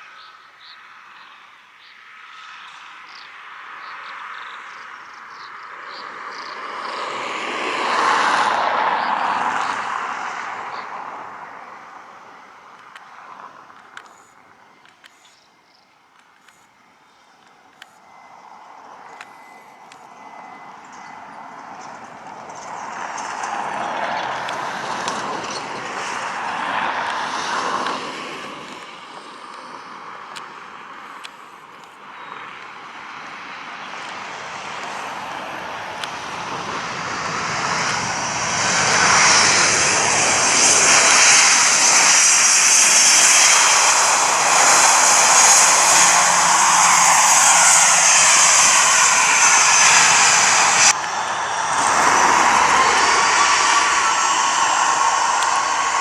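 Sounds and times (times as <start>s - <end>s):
airplane engine noise: 0.0s - 56.0s
high engine whine: 0.0s - 56.0s.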